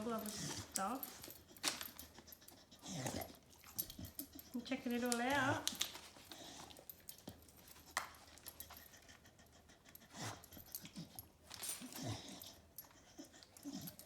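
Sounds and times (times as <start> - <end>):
dog sniffing and snuffling: 0.0 - 14.0.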